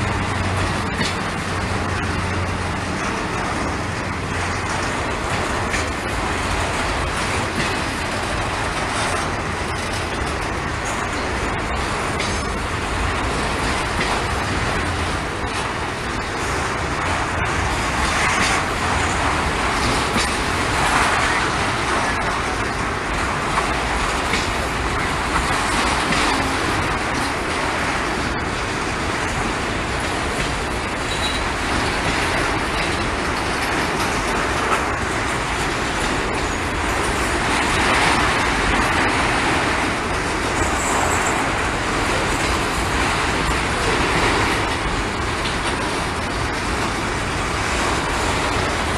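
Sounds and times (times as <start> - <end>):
freight train rumbling past: 0.0 - 48.9.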